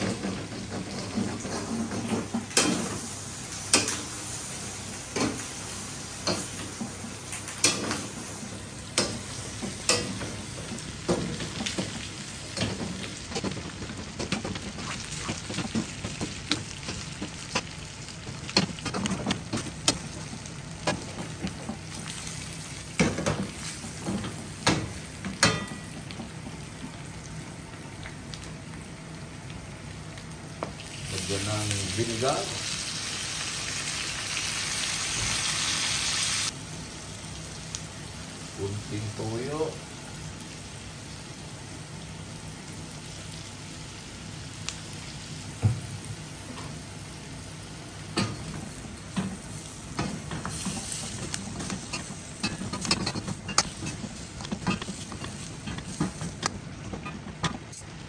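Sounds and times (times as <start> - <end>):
meat sizzling in fat: 0.0 - 56.8.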